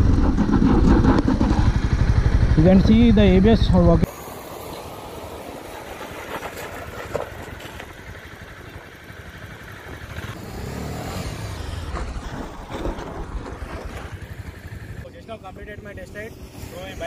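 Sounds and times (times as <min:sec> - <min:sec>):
motorcycle engine at low speed: 0:00.0 - 0:17.0.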